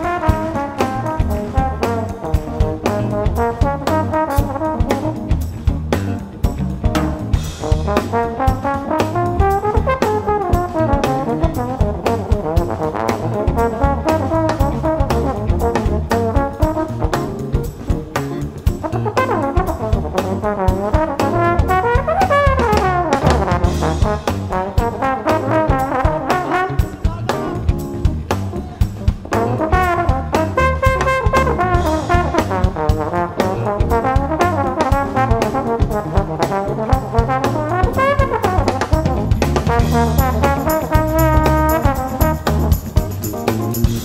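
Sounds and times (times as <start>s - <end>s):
trombone lead line: 0.0s - 5.9s, 7.1s - 44.0s
drum kit groove: 0.0s - 44.0s
electric bass: 0.0s - 44.0s.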